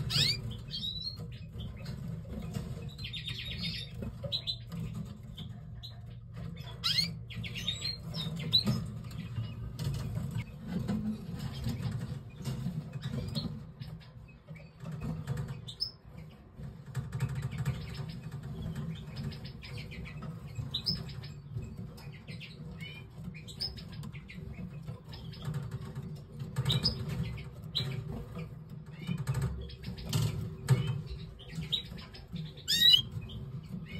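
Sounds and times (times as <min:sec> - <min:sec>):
canaries chirping: 0:00.0 - 0:33.9.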